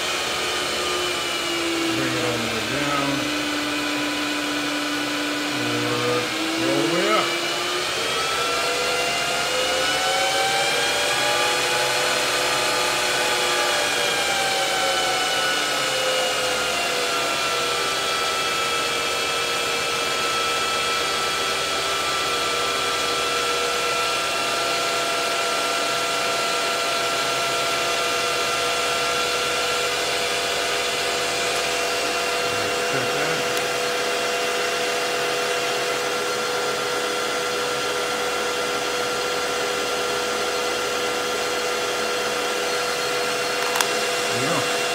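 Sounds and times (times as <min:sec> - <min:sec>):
lathe machine whine: 0:00.0 - 0:44.9.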